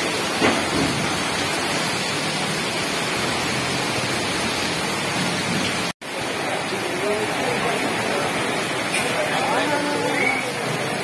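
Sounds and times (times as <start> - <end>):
torrential rain pouring on street: 0.0 - 11.0.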